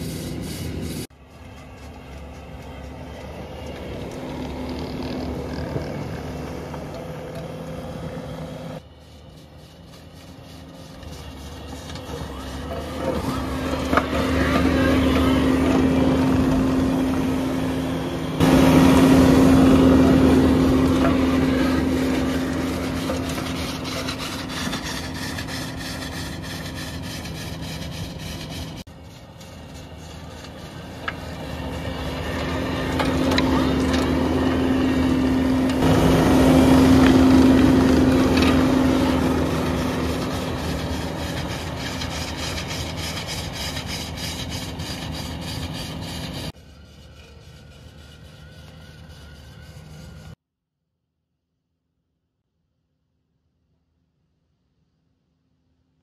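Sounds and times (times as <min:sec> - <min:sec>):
forestry mulcher engine and rotor drone: 0:00.0 - 0:50.4.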